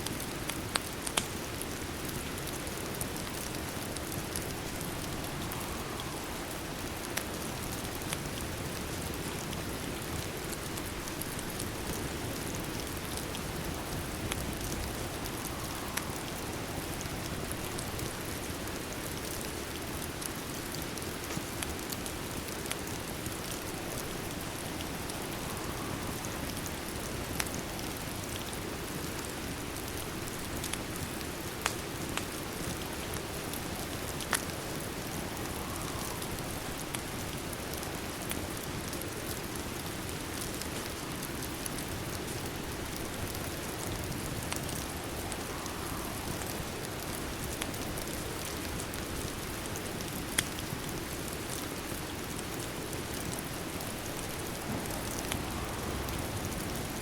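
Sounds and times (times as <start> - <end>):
steady rain: 0.0 - 57.0
wood fire crackling: 0.0 - 57.0.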